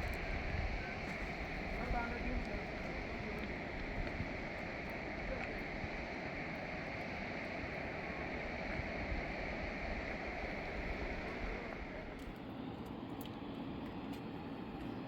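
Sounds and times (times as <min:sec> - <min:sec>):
steady rushing noise: 0:00.0 - 0:12.7.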